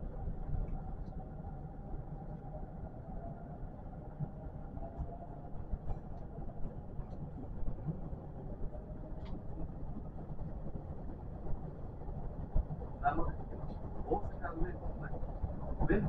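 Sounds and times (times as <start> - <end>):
electric train rumble: 0.0 - 16.0
faint whine: 0.0 - 16.0.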